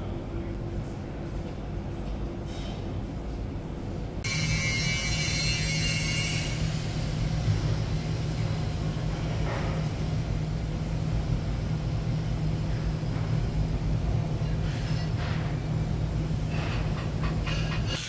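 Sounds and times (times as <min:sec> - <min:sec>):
low electrical hum: 0:00.0 - 0:18.0
shop machinery rumbling: 0:00.1 - 0:18.0.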